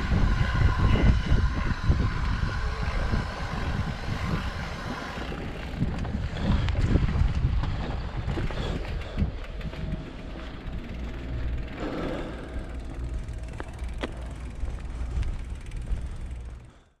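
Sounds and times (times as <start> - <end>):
bike tyres rumbling on dirt: 0.0 - 16.8
bike clicks and rattles: 0.0 - 17.0.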